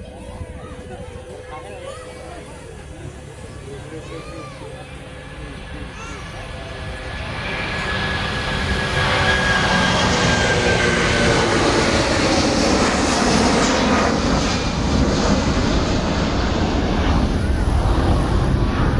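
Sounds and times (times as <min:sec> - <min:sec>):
jet engines roaring: 0:00.0 - 0:18.9.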